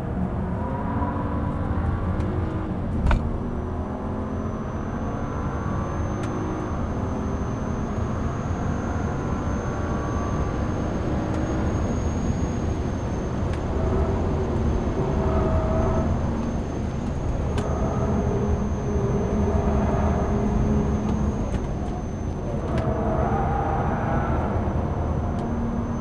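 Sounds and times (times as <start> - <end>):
car engine accelerating: 0.0 - 26.0
thin high whine: 4.4 - 26.0.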